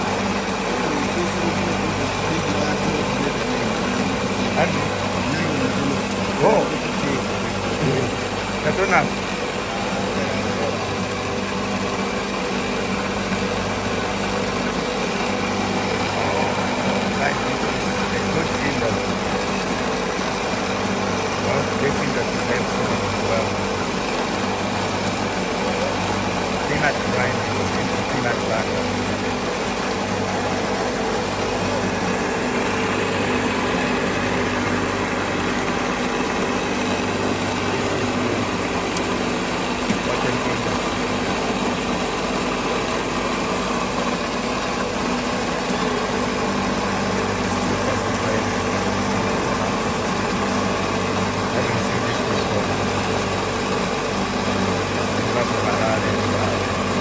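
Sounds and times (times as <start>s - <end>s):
grinding mill motor humming: 0.0s - 57.0s.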